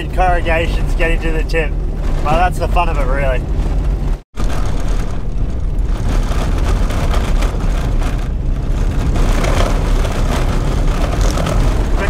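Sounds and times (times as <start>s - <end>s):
car rattling and knocking: 0.0s - 12.0s
tyres and engine rumbling: 0.0s - 12.0s.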